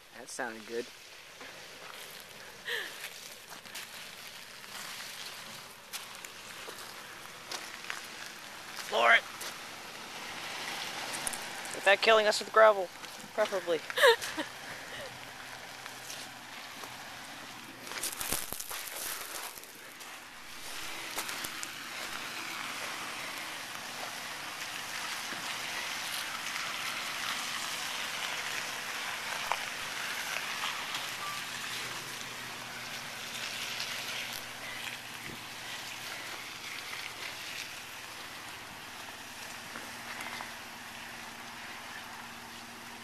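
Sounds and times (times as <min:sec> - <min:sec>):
car engine humming: 0:00.0 - 0:43.0
tyres hissing on wet gravel: 0:00.0 - 0:43.0.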